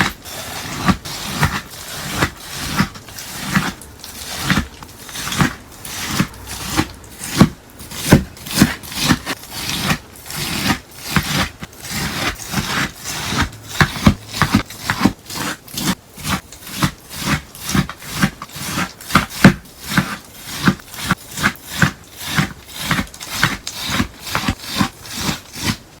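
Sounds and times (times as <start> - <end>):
crunchy slime crunching: 0.0 - 26.0.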